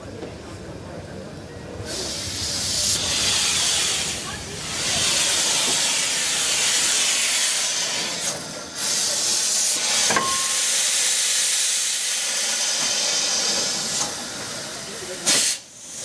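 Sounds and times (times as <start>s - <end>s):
steam hissing: 1.8s - 16.0s.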